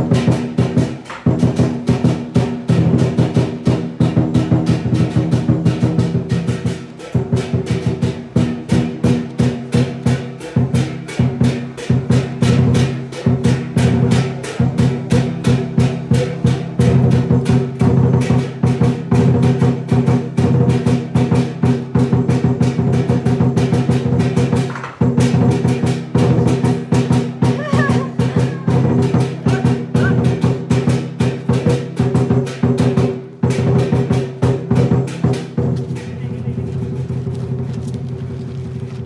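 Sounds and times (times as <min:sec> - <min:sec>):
crashing cymbals: 0:00.0 - 0:36.1
big drum beating: 0:00.0 - 0:39.0.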